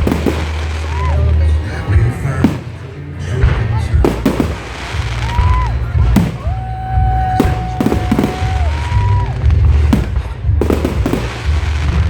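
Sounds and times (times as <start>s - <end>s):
fireworks exploding with sharp bangs: 0.0s - 12.0s
low rumble: 0.0s - 12.0s.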